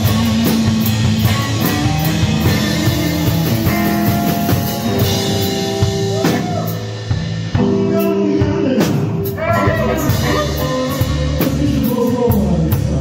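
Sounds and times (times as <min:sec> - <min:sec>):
bass guitar: 0:00.0 - 0:13.0
drum kit with cymbals: 0:00.0 - 0:13.0
electric guitar: 0:00.0 - 0:13.0.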